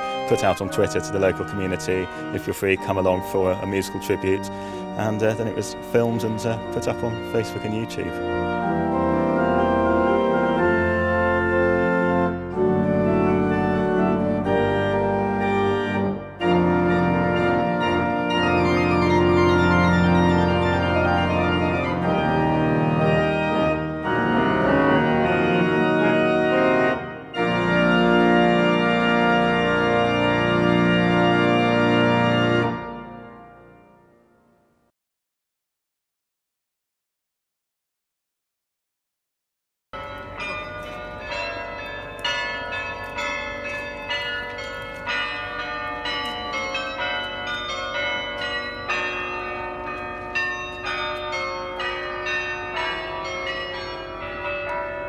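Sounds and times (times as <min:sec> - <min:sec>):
pipe organ chords: 0:00.0 - 0:34.8, 0:40.0 - 0:55.0.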